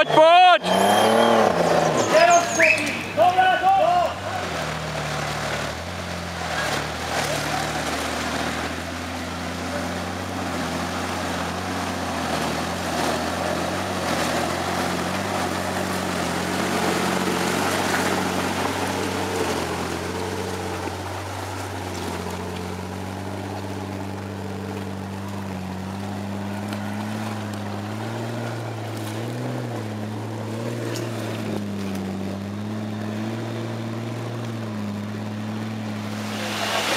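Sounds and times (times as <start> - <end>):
off-road vehicle engine at low revs: 0.0 - 36.9.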